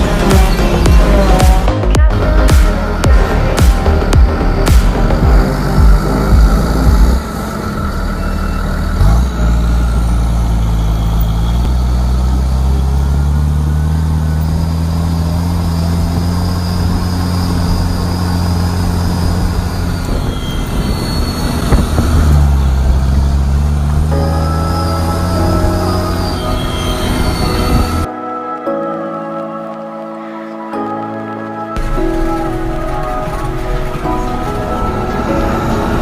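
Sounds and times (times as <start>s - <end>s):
diesel engine running under load: 0.0s - 28.1s, 31.8s - 36.0s.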